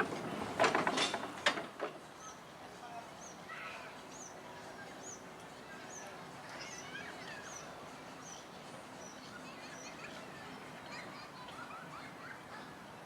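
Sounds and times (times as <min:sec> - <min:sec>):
steady background murmur: 0:00.0 - 0:13.0.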